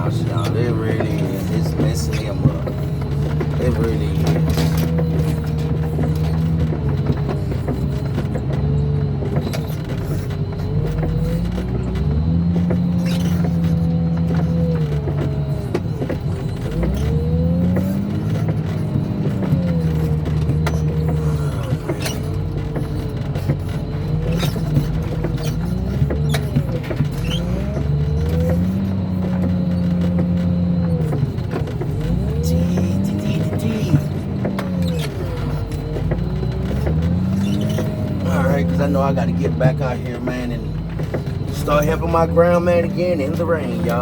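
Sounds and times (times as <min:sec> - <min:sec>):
heavy diesel engine under load: 0:00.0 - 0:44.0.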